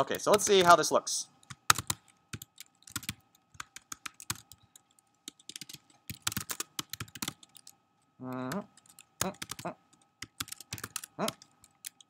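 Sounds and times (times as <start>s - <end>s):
keyboard typing clicks: 1.4s - 12.0s.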